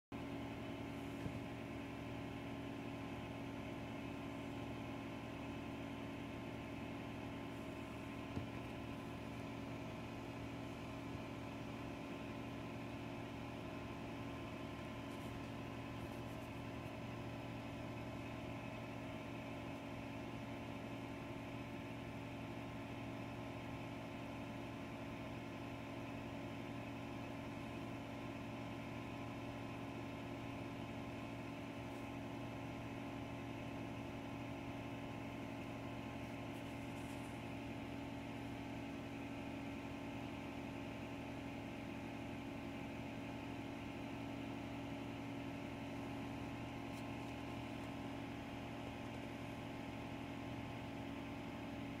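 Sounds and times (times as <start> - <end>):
aquarium motor hum: 0.1 - 52.0.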